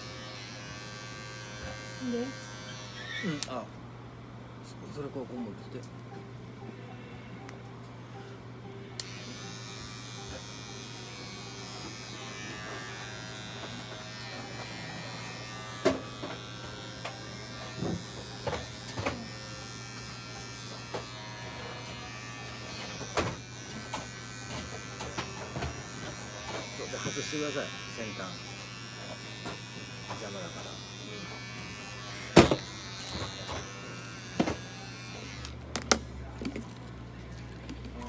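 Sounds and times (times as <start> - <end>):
electric clippers buzzing: 0.0 - 3.6, 6.6 - 36.1.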